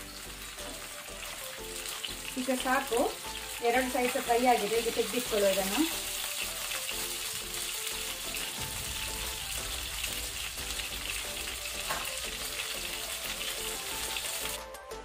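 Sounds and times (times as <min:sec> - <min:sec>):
chicken sizzling in oil: 0:00.0 - 0:14.7.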